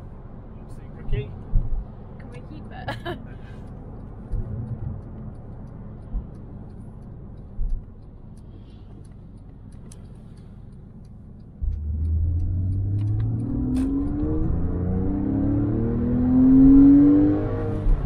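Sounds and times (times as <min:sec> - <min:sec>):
car engine drone from cabin: 0:00.0 - 0:18.0
road rumble: 0:00.0 - 0:18.0.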